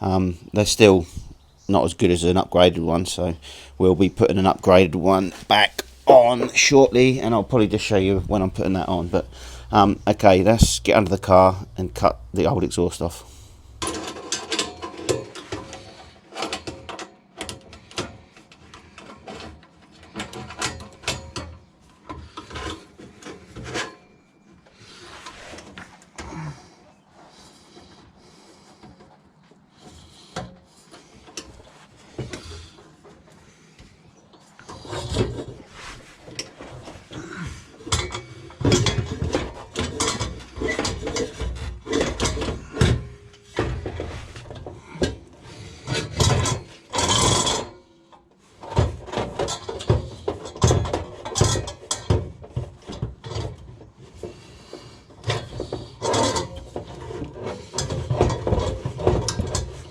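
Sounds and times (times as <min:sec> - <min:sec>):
hand tools rasping and scraping: 0:00.8 - 0:16.9, 0:24.7 - 0:59.9.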